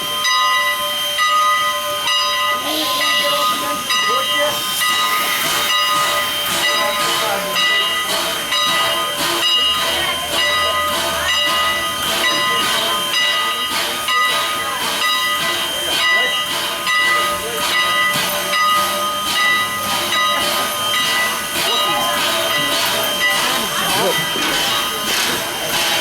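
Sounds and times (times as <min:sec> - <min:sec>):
rhythmic steam bursts: 0:00.0 - 0:26.0
steam locomotive hissing steam: 0:00.0 - 0:26.0.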